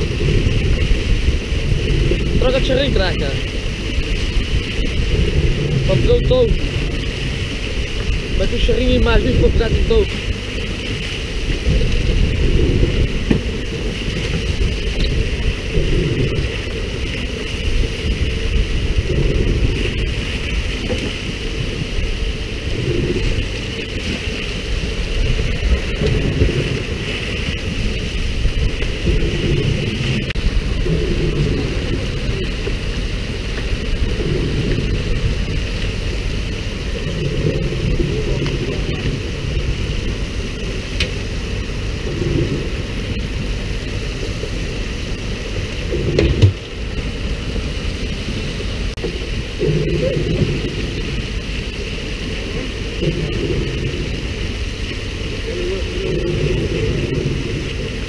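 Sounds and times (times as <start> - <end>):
water spray falling on sea: 0.0 - 58.0
wind rumble on microphone: 0.0 - 58.0.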